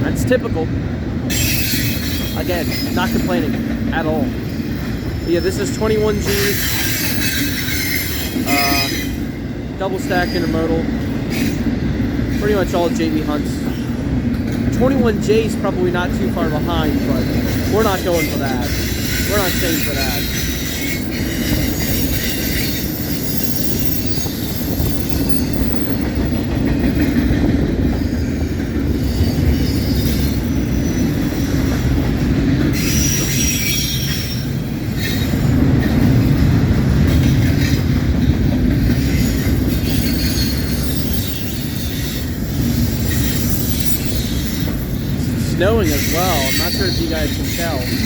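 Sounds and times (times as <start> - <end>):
steel wheels rumbling on rail: 0.0 - 48.0
high wheel squeal: 1.3 - 11.7, 14.8 - 26.4, 28.0 - 37.8, 38.8 - 48.0.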